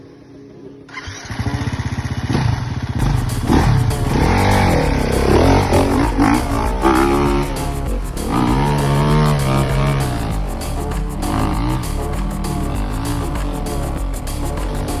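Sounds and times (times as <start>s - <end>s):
dirt bike engine revving: 1.2s - 15.0s.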